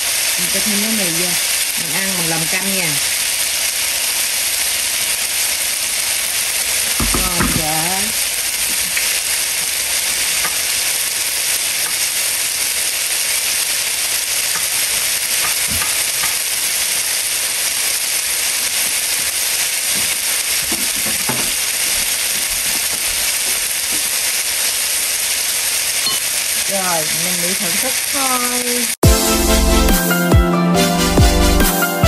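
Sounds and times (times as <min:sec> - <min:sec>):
food sizzling in a hot pan: 0:00.0 - 0:29.0.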